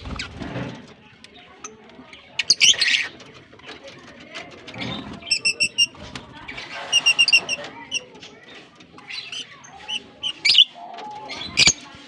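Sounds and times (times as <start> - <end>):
background bird chatter: 0.0 - 12.0.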